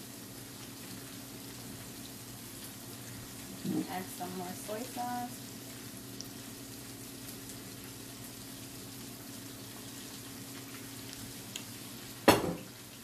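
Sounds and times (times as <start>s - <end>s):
faint steady hum: 0.0s - 13.0s
food sizzling and bubbling: 0.0s - 13.0s.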